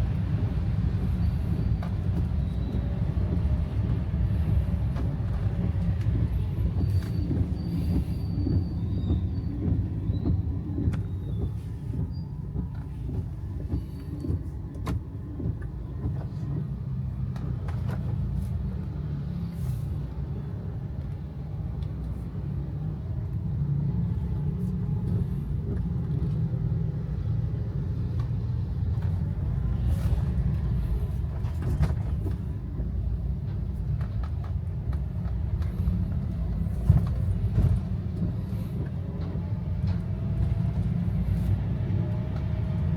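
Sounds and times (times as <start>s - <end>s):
car driving rumble: 0.0s - 42.9s.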